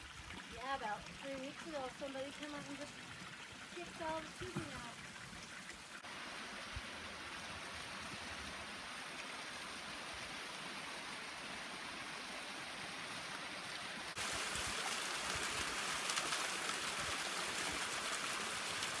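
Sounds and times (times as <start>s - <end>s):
small waterfall spilling into pool: 0.0s - 19.0s
water flowing over rocks: 0.0s - 19.0s.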